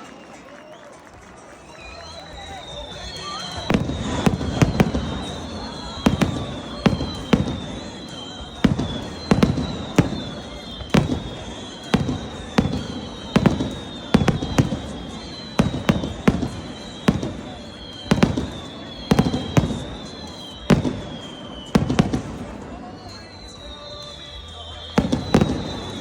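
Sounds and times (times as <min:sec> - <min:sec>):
firework bangs: 0:00.0 - 0:26.0
high wavering whistle: 0:00.0 - 0:26.0.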